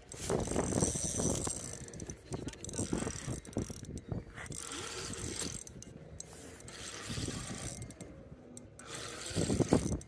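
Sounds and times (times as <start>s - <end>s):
fishing reel clicking: 0.0s - 10.0s.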